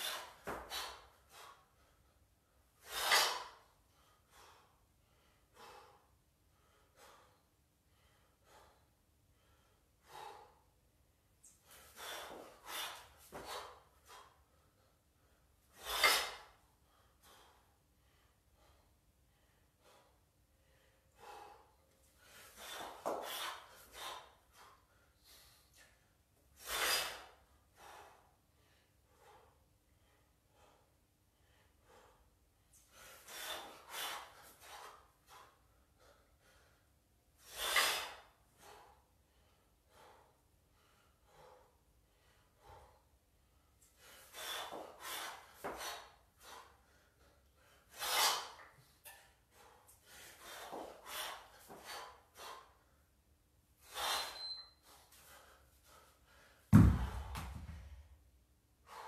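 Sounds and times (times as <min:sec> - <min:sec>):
person breathing hard: 0:00.0 - 0:26.0, 0:26.6 - 0:53.2.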